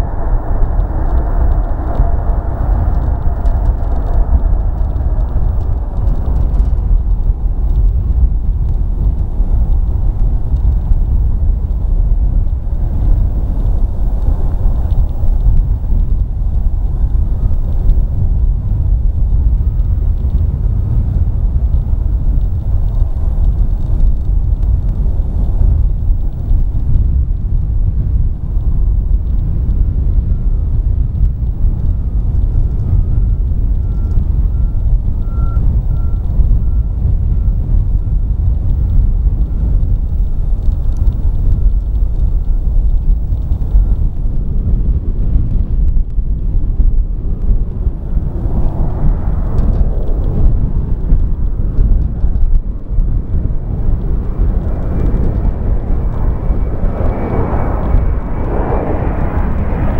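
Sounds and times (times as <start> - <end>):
distant jet engines rumbling: 0.0 - 59.9.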